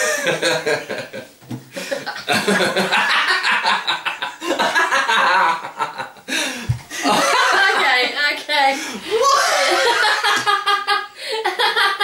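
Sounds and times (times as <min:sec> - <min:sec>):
people laughing: 0:00.0 - 0:08.2, 0:09.1 - 0:12.0.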